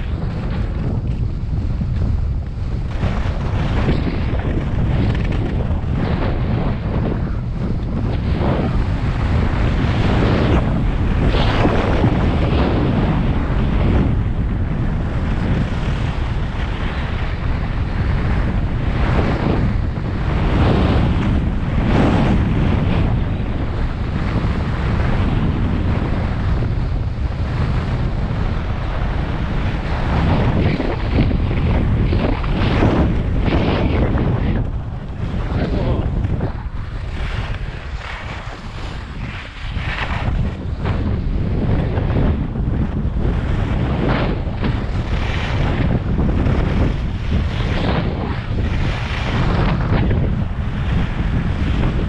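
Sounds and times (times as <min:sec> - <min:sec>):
skis scraping hard snow: 0:00.0 - 0:14.1, 0:15.1 - 0:52.0
wind buffeting microphone: 0:00.0 - 0:52.0.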